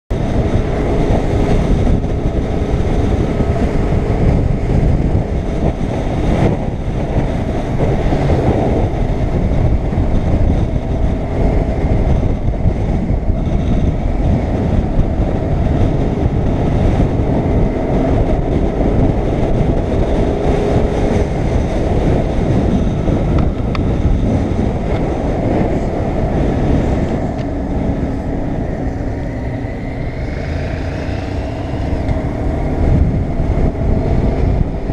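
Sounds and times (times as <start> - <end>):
motorcycle engine running: 0.1 - 34.9
wind rush on microphone: 0.1 - 34.9.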